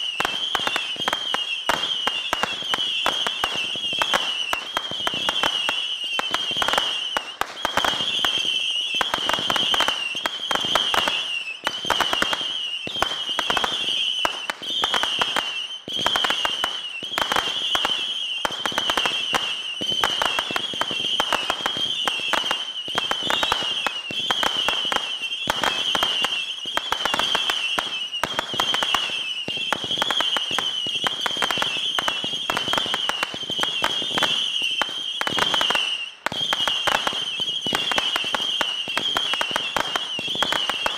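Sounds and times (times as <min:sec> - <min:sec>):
crackling and popping rockets: 0:00.0 - 0:40.9.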